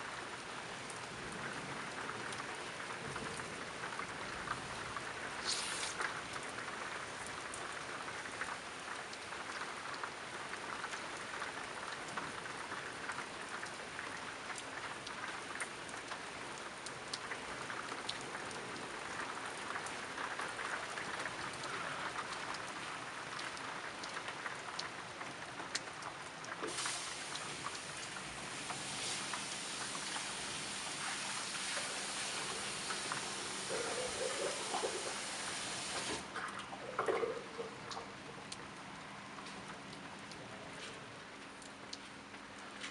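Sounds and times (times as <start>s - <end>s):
raindrops ticking: 0.0s - 42.9s
steady rain hiss: 0.0s - 42.9s.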